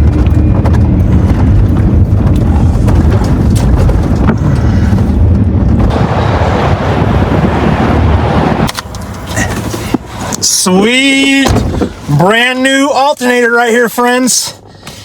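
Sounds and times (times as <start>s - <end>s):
wind buffeting microphone: 0.0s - 12.1s
steady low rumble: 0.0s - 12.6s.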